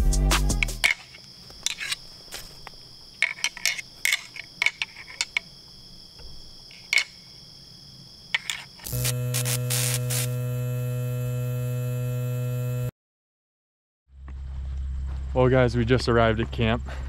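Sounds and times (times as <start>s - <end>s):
crickets chirping: 0.1s - 12.8s, 14.2s - 17.0s.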